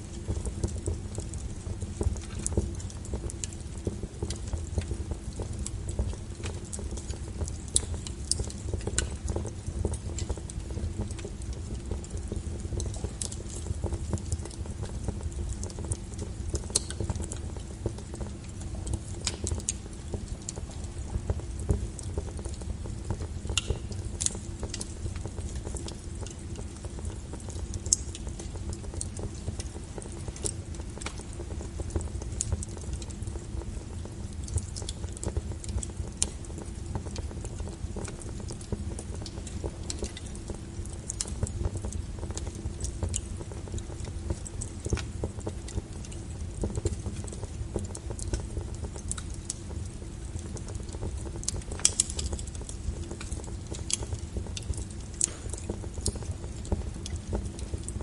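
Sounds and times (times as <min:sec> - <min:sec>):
low steady fire rumble: 0:00.0 - 0:58.0
wood fire crackling and popping: 0:00.0 - 0:58.0.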